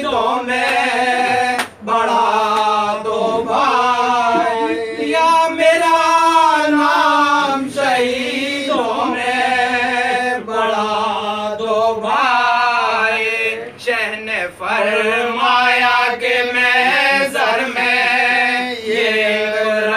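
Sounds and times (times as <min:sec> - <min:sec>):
men chanting in unison: 0:00.0 - 0:19.9.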